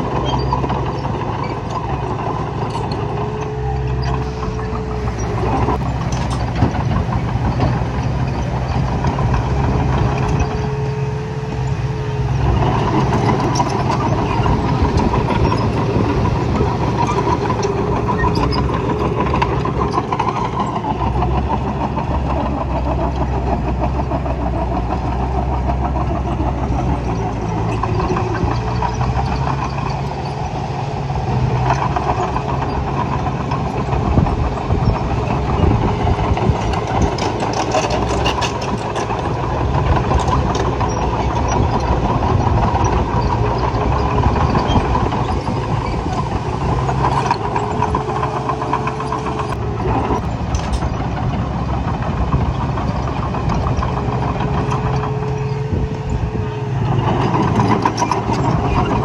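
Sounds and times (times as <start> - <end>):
earthmoving machine engine running: 0.0 - 59.0.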